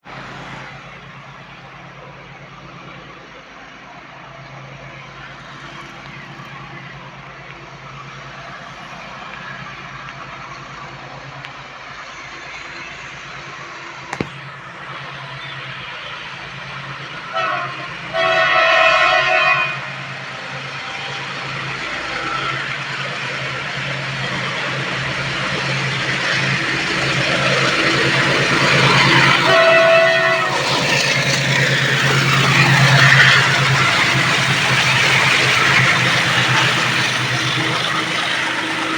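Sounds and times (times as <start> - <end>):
diesel locomotive engine chugging: 0.0 - 38.9
train running on track: 0.0 - 38.9
wheels hissing on rails: 0.0 - 38.9.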